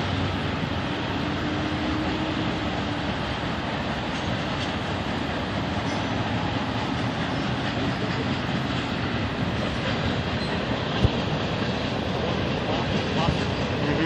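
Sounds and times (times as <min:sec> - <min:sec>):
highway traffic passing: 0:00.0 - 0:14.0
train wheels rumbling on rail: 0:00.0 - 0:14.0.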